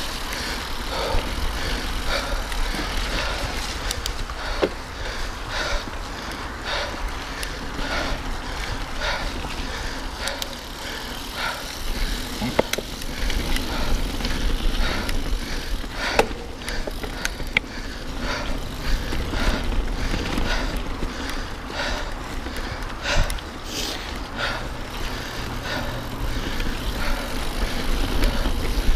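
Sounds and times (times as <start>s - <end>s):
bike clanking over bumps: 0.0s - 28.9s
rumble of tyres and wind: 0.0s - 28.9s.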